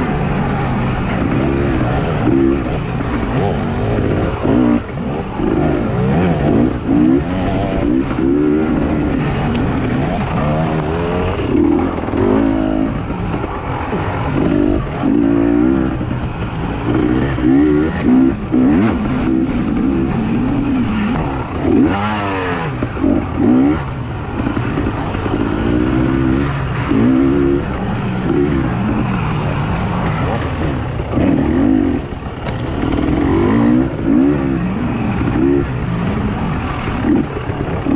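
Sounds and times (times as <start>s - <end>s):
racing engines accelerating: 0.0s - 37.9s.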